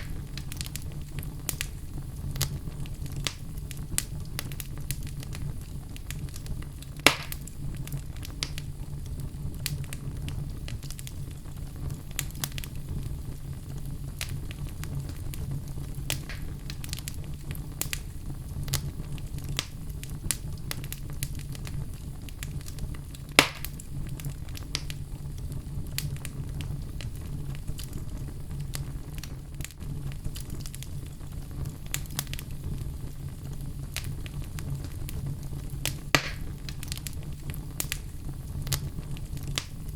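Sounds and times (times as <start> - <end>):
sharp pops of fire: 0.0 - 39.9
wood fire crackling: 0.0 - 39.9.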